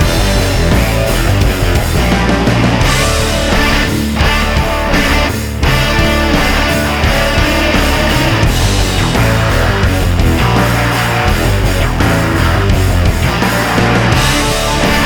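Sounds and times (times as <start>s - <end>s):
rock music with distorted guitar: 0.0s - 15.0s.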